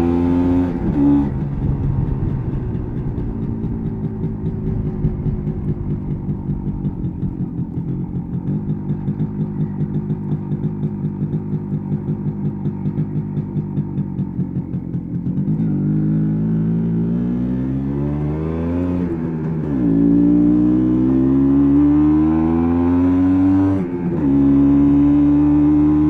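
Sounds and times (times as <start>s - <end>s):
two-stroke motorcycle engine: 0.0s - 26.0s.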